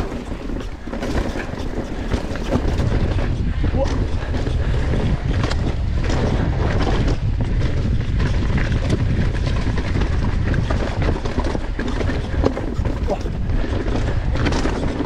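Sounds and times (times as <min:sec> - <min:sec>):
bike clattering on trail: 0:00.0 - 0:15.0
wind buffeting microphone: 0:00.0 - 0:15.0.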